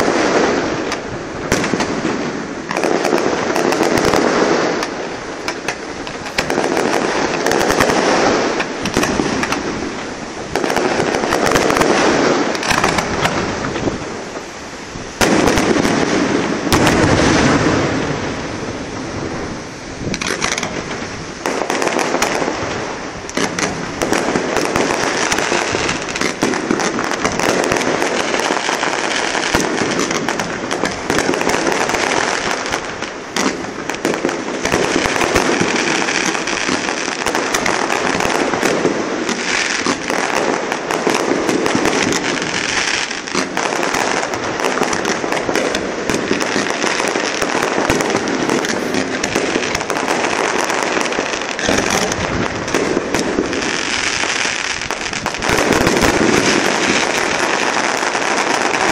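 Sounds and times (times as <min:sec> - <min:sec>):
fireworks bursting and crackling: 0:00.0 - 0:58.9.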